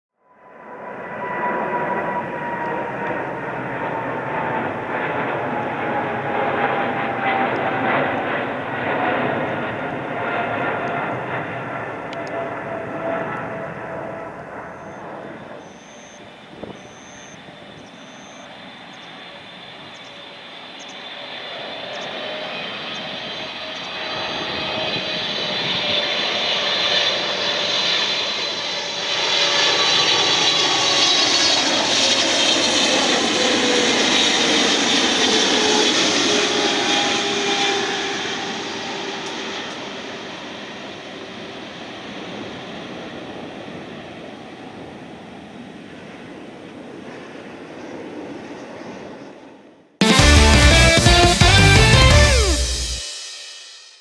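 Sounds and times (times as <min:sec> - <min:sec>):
jet engines on landing approach: 0:00.3 - 0:50.0
jet engine roar with fan whine: 0:00.4 - 0:49.9.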